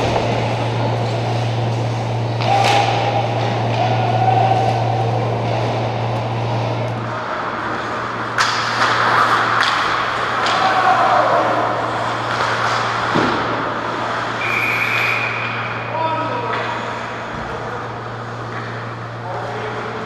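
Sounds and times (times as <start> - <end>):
hockey sticks and puck clacking: 0.0 - 15.8, 16.5 - 16.9
steady low hum: 0.0 - 20.0.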